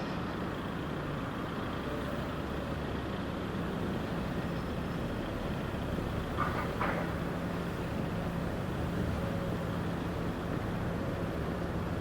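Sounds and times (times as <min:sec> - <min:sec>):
street traffic engines humming: 0:00.0 - 0:12.0.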